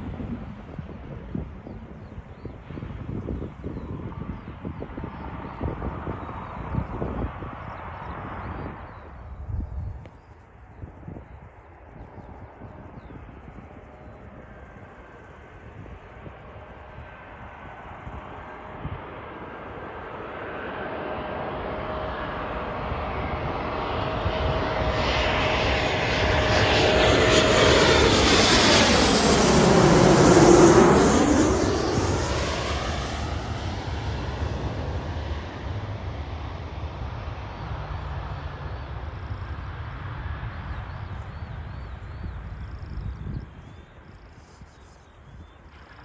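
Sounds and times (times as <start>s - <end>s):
jet airliner flying past: 0.0s - 46.0s.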